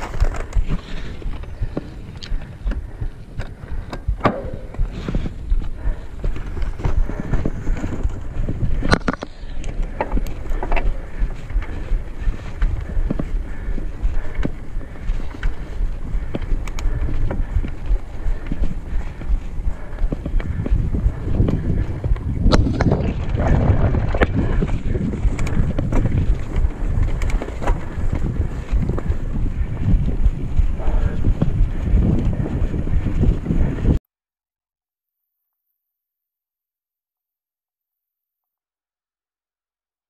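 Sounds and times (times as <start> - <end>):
bike knocking and rattling: 0.0 - 34.0
bike tyres rumbling on dirt: 0.0 - 34.0
wind buffeting microphone: 0.0 - 34.0.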